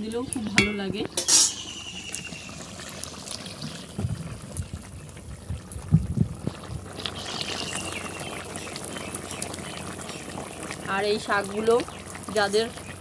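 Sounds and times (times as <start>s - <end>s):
curry bubbling in a pan: 0.0s - 13.0s.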